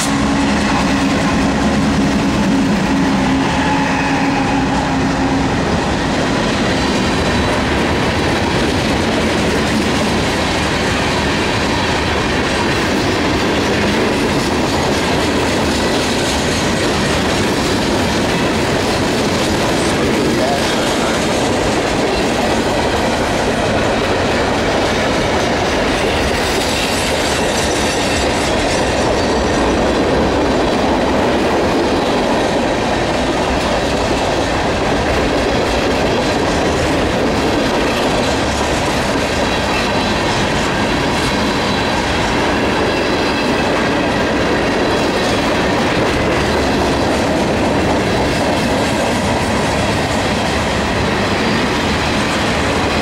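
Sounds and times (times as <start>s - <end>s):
freight train wheels on rails: 0.0s - 53.0s.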